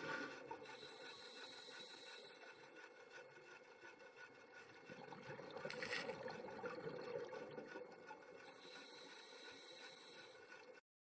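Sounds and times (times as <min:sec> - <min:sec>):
faint underwater hum: 0:00.0 - 0:10.8.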